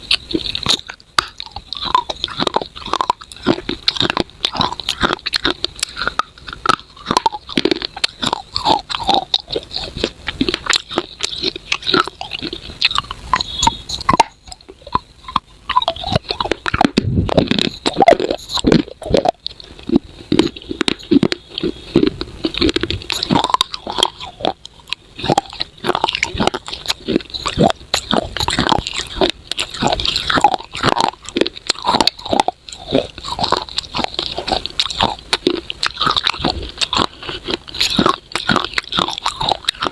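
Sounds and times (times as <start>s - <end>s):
biting and crunching clay: 0.0s - 39.9s.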